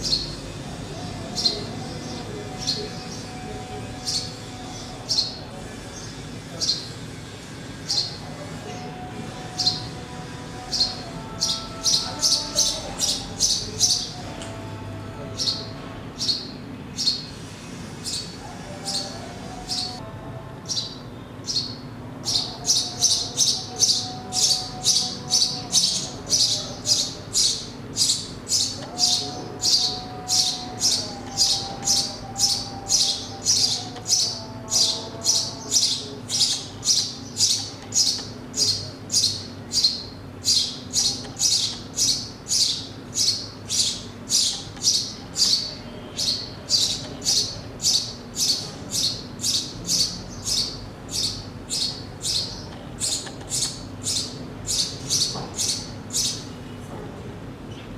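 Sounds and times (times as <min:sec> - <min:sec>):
sparrow chirping: 0:00.0 - 0:07.1, 0:07.8 - 0:17.4, 0:18.0 - 0:56.6.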